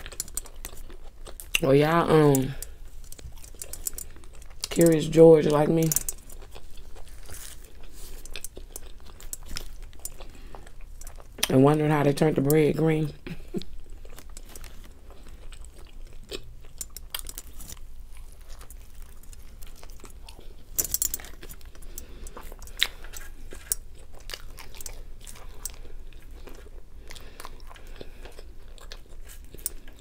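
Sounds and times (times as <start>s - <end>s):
chewing burger: 0.0s - 12.2s, 13.2s - 30.0s.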